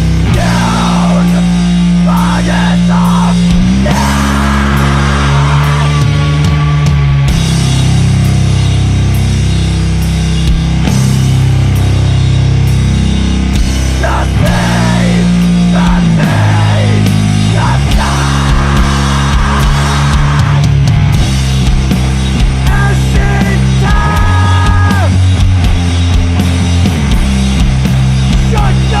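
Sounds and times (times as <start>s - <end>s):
drums with cymbal crashes: 0.0s - 29.0s
low held guitar chords: 0.0s - 29.0s.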